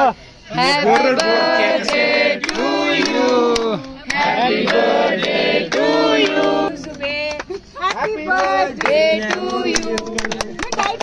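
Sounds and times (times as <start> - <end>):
young voices singing together: 0.5 - 11.0
hands clapping: 0.9 - 11.0.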